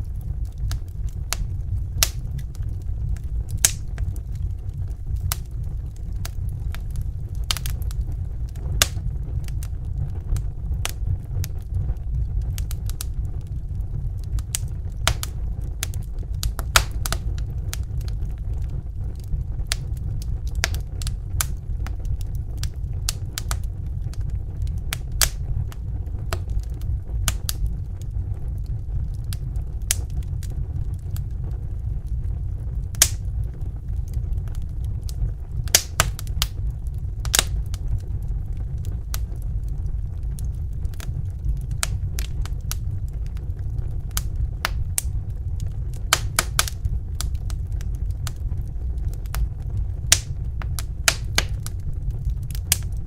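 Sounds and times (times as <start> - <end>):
low rumble of burning logs: 0.0 - 53.0
wood fire crackling: 0.0 - 53.0.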